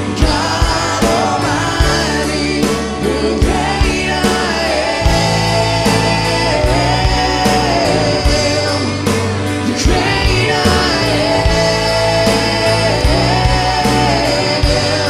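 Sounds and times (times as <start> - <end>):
drum kit steady beat: 0.0 - 15.0
electric guitar: 0.0 - 15.0
keyboard: 0.0 - 15.0
singers holding long notes: 0.0 - 15.0.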